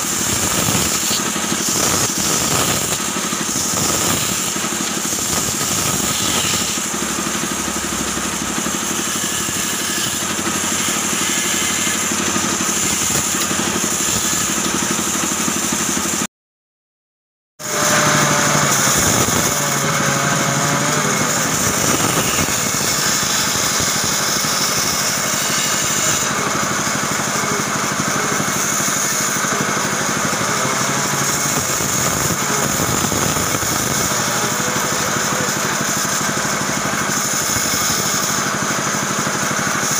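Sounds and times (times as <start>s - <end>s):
bandsaw cutting wood: 0.0s - 16.3s, 17.6s - 39.9s.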